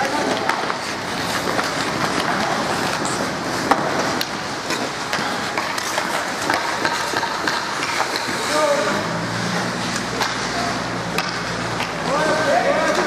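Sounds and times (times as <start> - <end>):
hockey sticks and puck clacking: 0.0 - 13.0
skates scraping on ice: 0.0 - 13.0.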